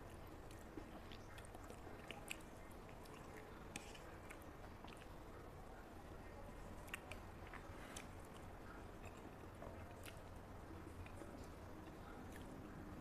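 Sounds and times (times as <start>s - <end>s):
person chewing spaghetti: 0.0s - 5.4s, 6.5s - 13.0s
low steady background noise: 0.0s - 13.0s.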